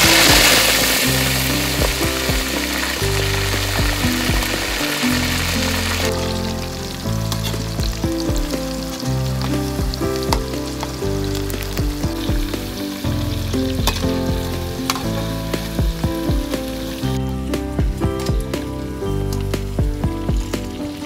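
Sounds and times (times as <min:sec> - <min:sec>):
food sizzling in hot oil: 0:00.0 - 0:17.6
background music with bass: 0:00.0 - 0:21.0.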